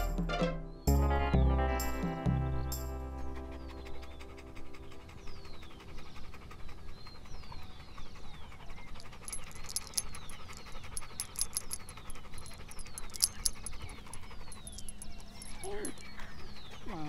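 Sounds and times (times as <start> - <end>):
dogs panting: 2.6 - 17.0.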